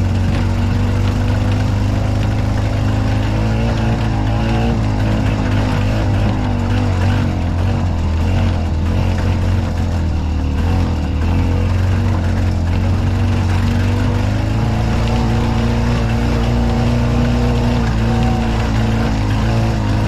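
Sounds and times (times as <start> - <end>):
golf car engine droning: 0.0 - 20.0.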